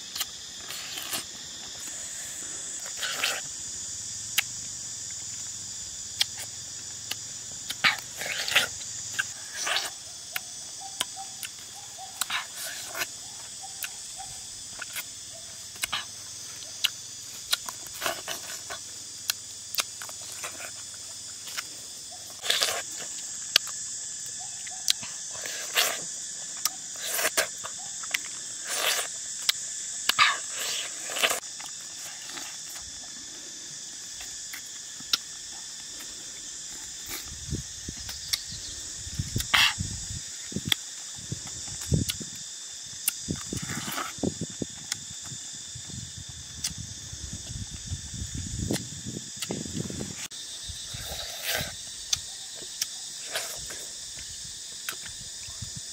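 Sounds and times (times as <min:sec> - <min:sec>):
insect chorus: 0:00.0 - 0:55.9.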